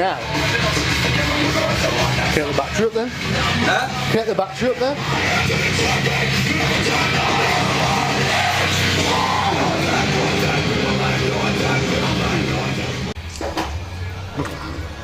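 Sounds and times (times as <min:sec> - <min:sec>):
loud rock music: 0:00.0 - 0:13.3.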